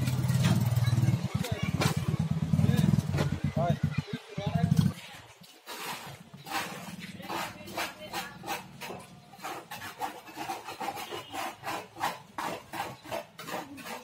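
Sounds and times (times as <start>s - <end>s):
hand tool scraping wet mortar: 0.0s - 3.6s, 4.6s - 14.0s.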